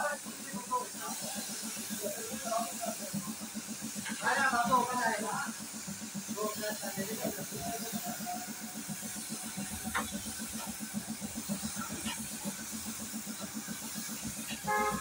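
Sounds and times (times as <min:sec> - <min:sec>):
air compressor chugging: 0:00.0 - 0:15.0
paint spray gun hissing: 0:00.0 - 0:15.0.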